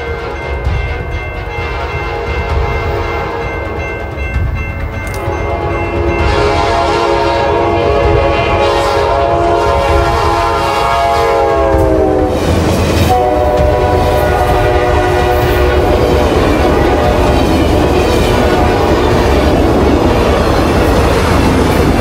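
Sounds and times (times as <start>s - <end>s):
train horn chord: 0.0s - 3.8s, 5.1s - 19.4s
moving train rumble: 0.0s - 22.0s.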